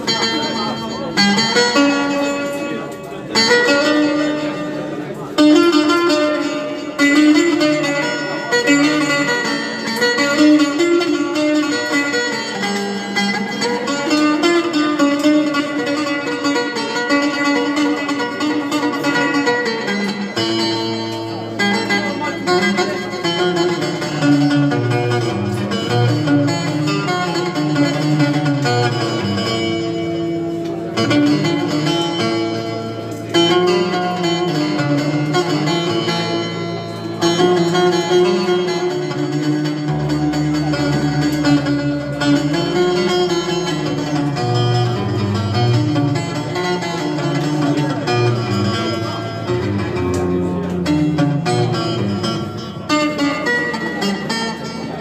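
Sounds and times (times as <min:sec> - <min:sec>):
plucked string instrument melody: 0:00.0 - 0:55.0.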